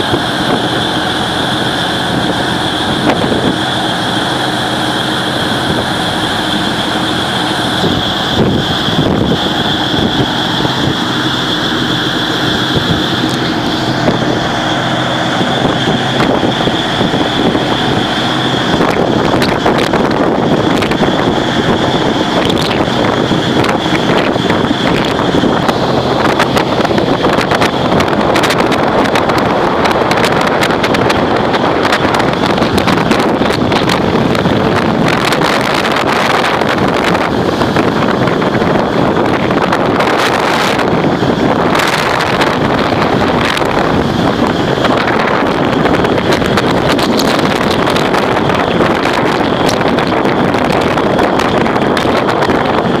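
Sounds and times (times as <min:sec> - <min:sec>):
high steady whine: 0:00.0 - 0:53.0
low engine rumble: 0:00.0 - 0:53.0
waves breaking along hull: 0:00.0 - 0:53.0
wind buffeting microphone: 0:00.0 - 0:53.0.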